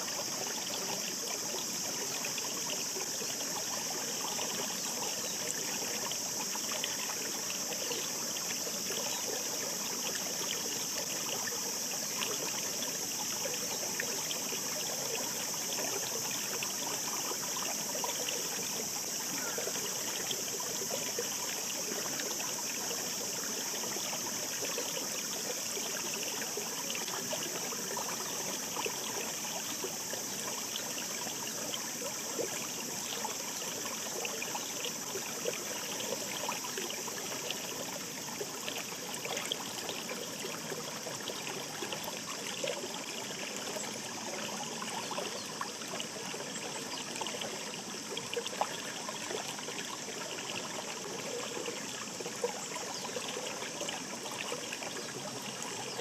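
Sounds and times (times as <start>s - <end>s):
mountain stream babbling: 0.0s - 56.0s.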